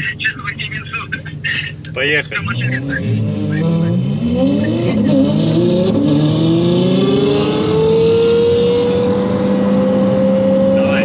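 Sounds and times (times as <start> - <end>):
sports car engines accelerating: 0.0 - 11.0.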